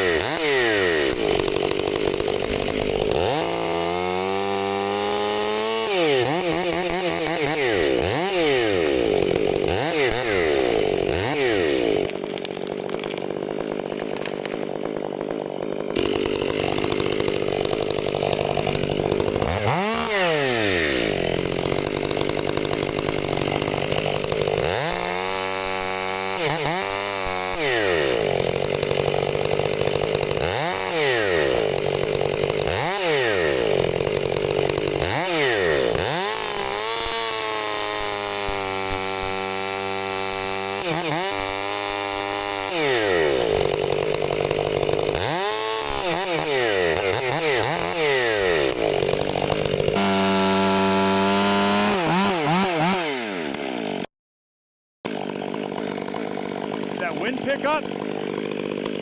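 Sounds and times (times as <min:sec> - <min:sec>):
chainsaw cutting wood: 0:00.0 - 0:54.1, 0:55.1 - 0:59.0.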